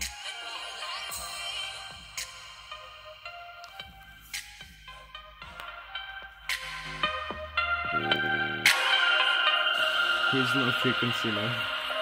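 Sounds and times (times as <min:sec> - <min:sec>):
electronic music with sharp beats: 0:00.0 - 0:12.0.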